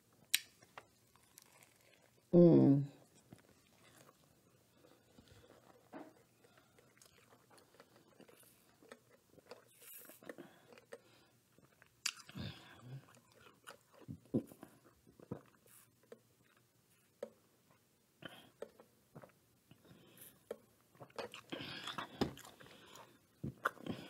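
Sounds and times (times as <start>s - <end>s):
person chewing: 0.2s - 2.3s, 3.0s - 17.4s, 18.2s - 24.0s.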